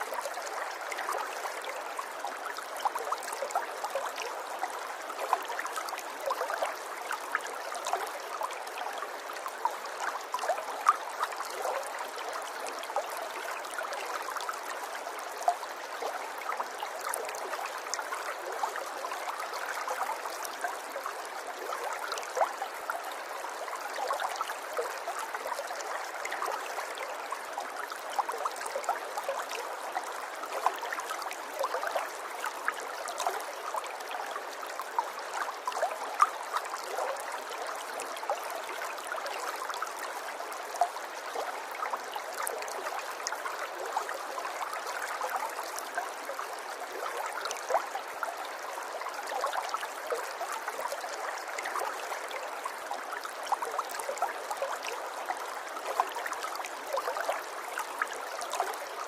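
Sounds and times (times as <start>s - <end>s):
river water bubbling and splashing: 0.0s - 59.0s.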